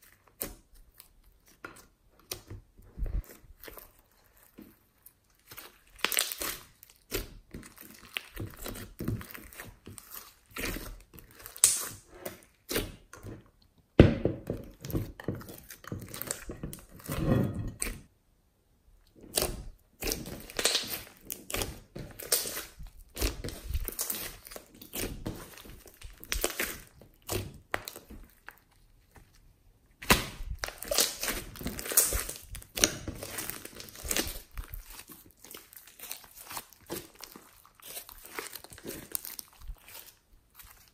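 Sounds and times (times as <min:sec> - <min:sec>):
hands squelching sticky slime: 0:00.0 - 0:18.0, 0:19.1 - 0:40.9.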